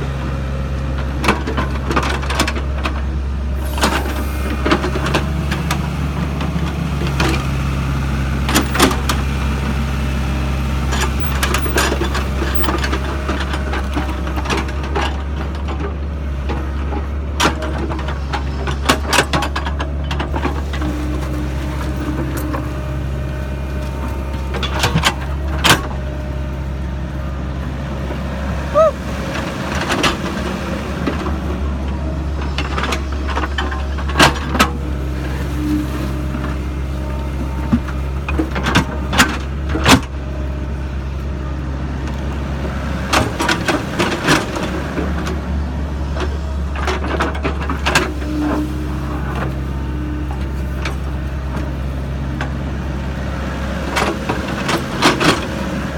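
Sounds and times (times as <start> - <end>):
excavator diesel engine drone: 0.0 - 55.9.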